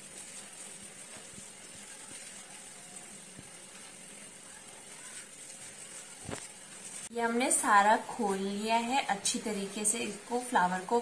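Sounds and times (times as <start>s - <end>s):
tissue paper rustling: 0.0s - 10.9s.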